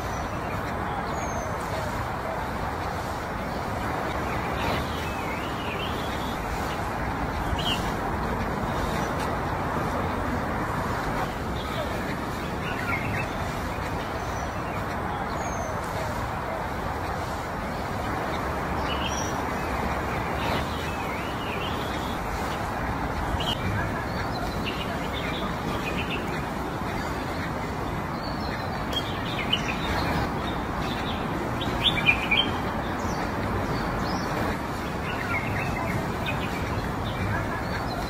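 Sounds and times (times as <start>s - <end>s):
outdoor background noise: 0.0s - 38.0s
small birds chirping: 0.0s - 38.0s.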